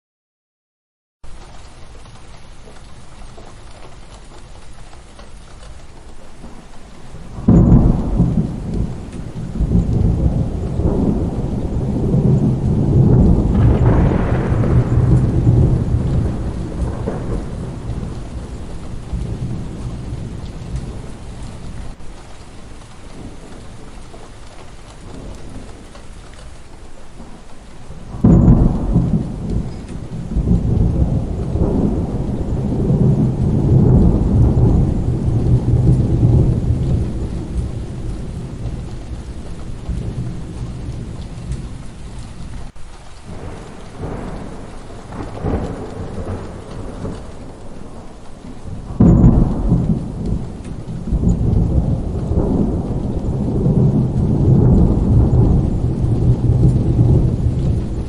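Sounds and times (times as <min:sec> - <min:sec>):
steady rain: 0:01.2 - 0:58.0
rolling thunder rumble: 0:01.3 - 0:58.0
sharp thunderclap: 0:05.4 - 0:22.1, 0:22.7 - 0:58.0.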